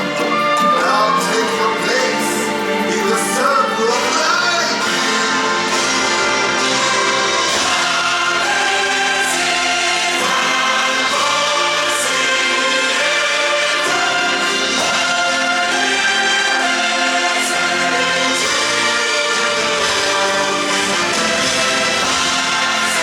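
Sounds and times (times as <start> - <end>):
choir singing: 0.0 - 23.0
orchestral backing: 0.0 - 23.0.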